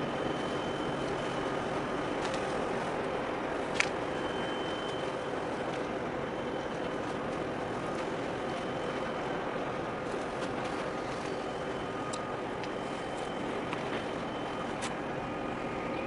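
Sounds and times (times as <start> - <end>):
distant engines rumbling: 0.0 - 16.0
wind: 0.0 - 16.0.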